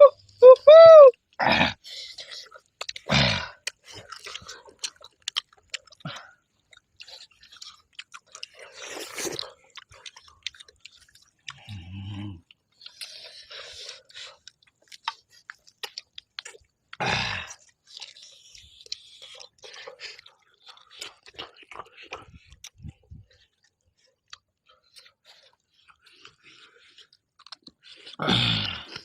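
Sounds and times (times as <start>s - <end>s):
wet crunchy chewing: 1.1s - 29.0s.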